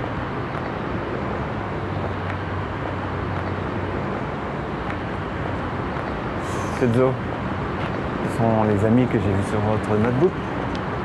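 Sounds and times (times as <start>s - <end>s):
distant road traffic: 0.0s - 11.0s.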